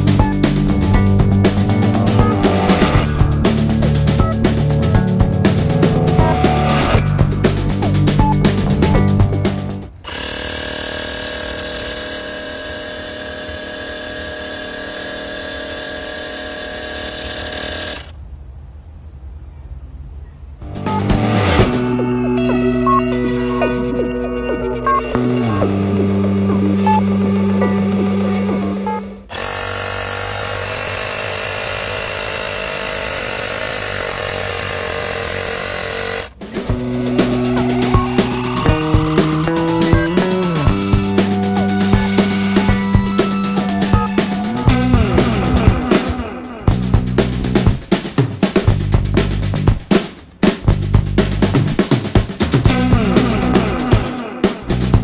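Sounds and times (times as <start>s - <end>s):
tyre compressor running: 0.0s - 18.2s, 24.9s - 55.0s.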